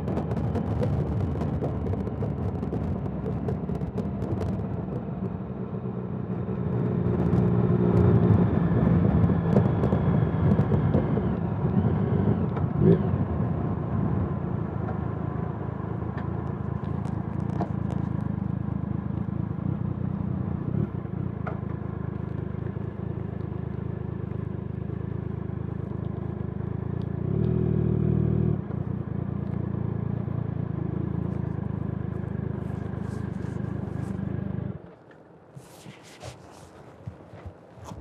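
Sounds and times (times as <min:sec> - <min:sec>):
motorcycle engine cruising: 0:00.0 - 0:34.8, 0:35.6 - 0:38.0
road and wind noise: 0:00.0 - 0:38.0.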